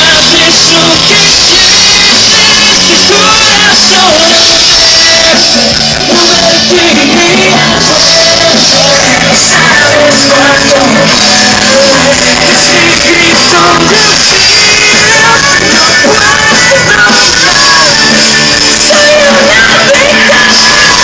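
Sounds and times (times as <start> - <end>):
live band playing: 0.0 - 21.0
person singing: 0.0 - 21.0.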